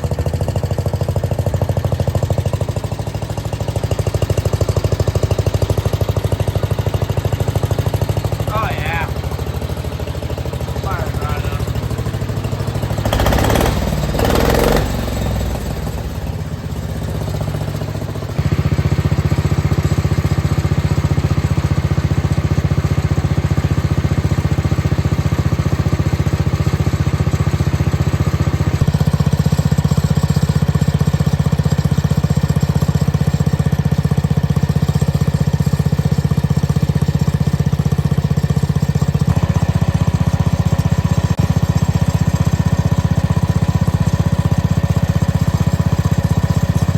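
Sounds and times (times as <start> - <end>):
loud tractor engine running: 0.0 - 46.9.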